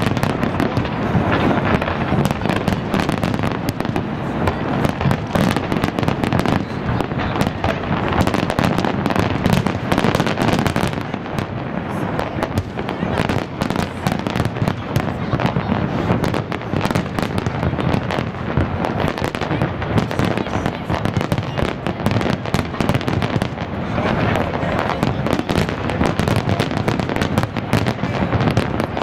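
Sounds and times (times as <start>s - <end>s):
fireworks bursts and crackle: 0.0s - 29.0s.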